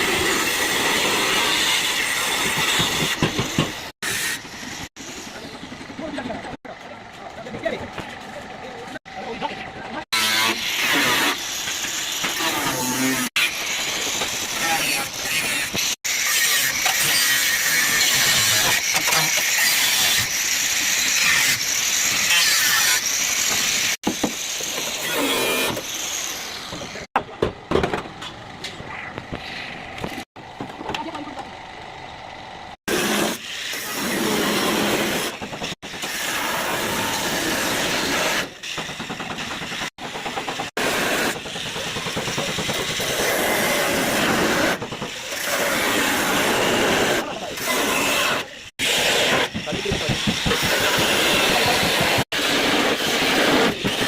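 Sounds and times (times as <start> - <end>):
loud hissing workshop noise: 0.0 - 6.6, 7.4 - 27.1, 32.7 - 54.0.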